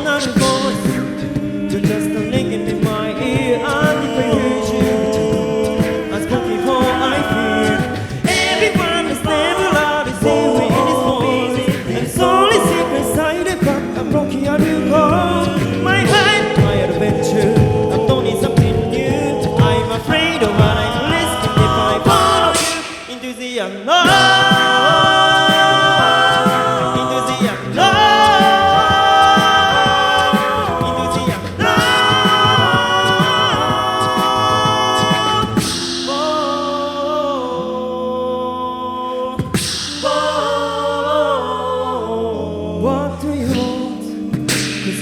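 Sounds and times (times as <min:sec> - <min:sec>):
beatboxing: 0:00.0 - 0:37.3, 0:39.4 - 0:41.1, 0:43.3 - 0:45.0
male a cappella harmonies: 0:00.0 - 0:45.0.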